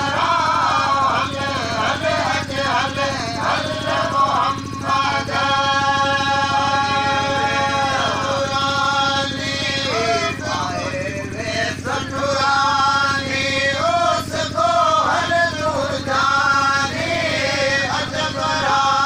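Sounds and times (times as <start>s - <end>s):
man singing slow melody: 0.0s - 19.0s
steady low hum: 0.0s - 19.0s.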